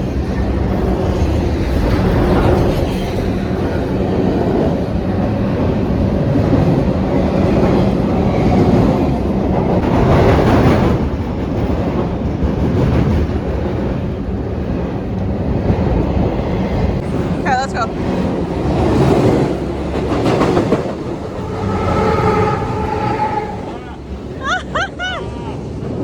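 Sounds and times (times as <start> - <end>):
train rumbling overhead: 0.0 - 26.0.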